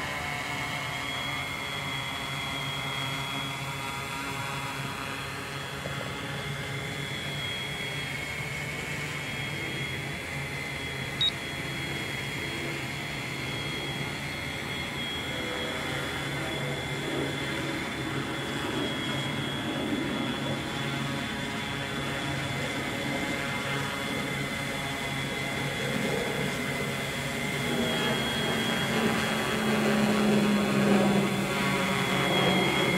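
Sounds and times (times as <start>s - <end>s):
drone motors whining: 5.6s - 32.9s.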